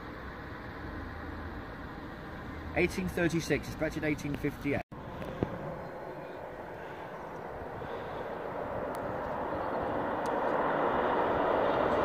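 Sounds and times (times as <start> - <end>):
distant train rumble: 0.0 - 12.0.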